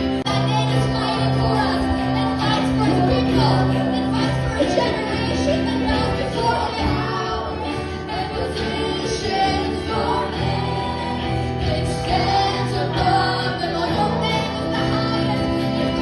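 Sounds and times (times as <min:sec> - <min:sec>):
congregation singing: 0:00.0 - 0:16.0
keyboard chords: 0:00.0 - 0:16.0.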